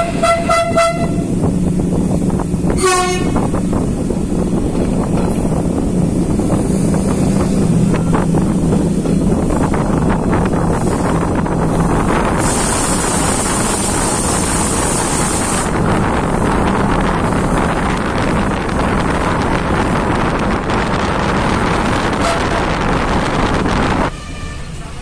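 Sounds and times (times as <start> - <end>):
wind rushing over microphone: 0.0 - 24.1
train running noise: 0.0 - 25.0.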